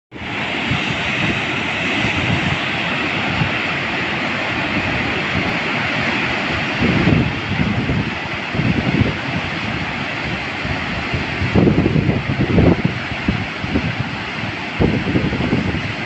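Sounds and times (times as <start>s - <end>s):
wind buffeting microphone: 0.1s - 16.0s
river rushing over rocks: 0.2s - 16.0s.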